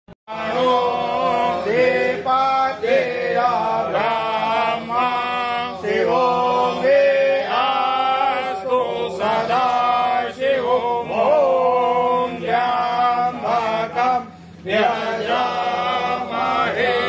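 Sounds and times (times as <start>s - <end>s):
man chanting melodically: 0.3s - 17.0s
steady low hum: 0.3s - 17.0s.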